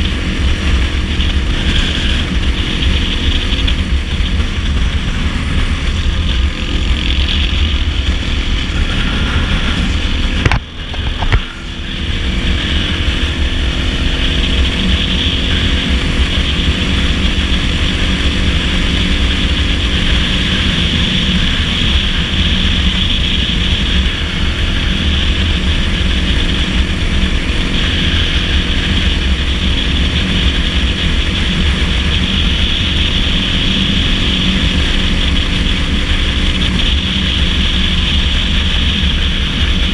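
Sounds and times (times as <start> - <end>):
dirt bike engine running: 0.0 - 39.9
wind noise rumble: 0.0 - 39.9.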